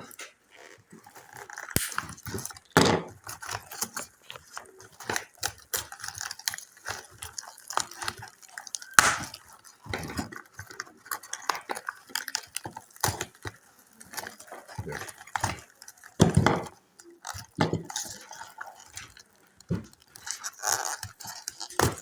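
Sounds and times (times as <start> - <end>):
hand tools clicking and tapping: 1.7 - 22.0.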